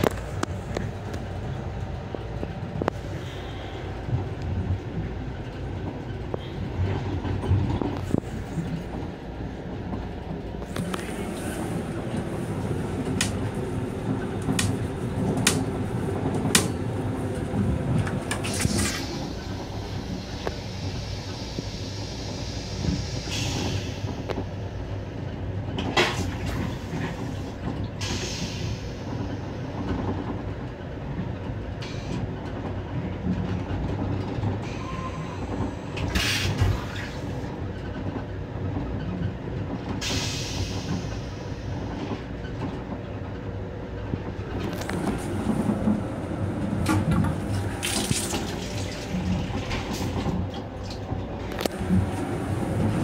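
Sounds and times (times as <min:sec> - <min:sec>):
train rumble and rail clatter: 0:00.0 - 0:53.0.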